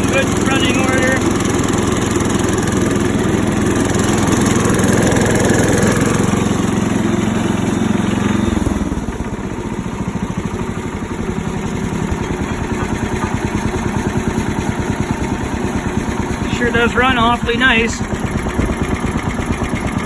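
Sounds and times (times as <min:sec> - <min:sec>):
garden tractor engine running: 0:00.0 - 0:20.0.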